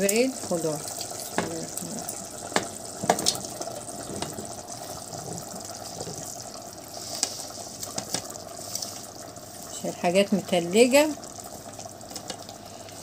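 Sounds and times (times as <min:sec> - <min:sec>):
sizzling hiss: 0:00.0 - 0:13.0.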